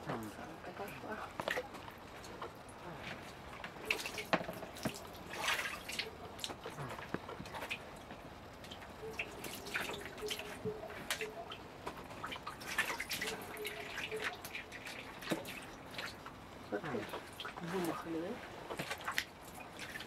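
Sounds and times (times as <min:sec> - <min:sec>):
water splashing in plastic basin: 0:00.0 - 0:20.0.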